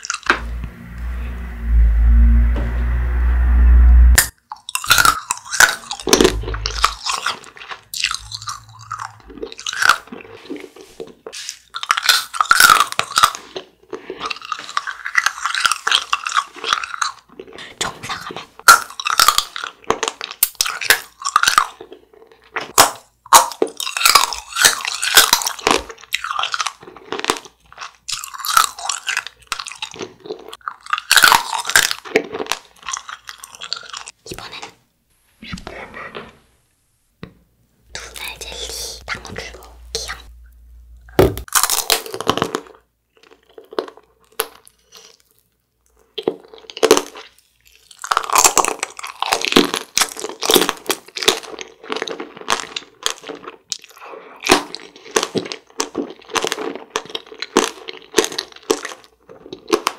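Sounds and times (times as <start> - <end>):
person crunching candy: 4.5 - 34.7, 41.4 - 59.9.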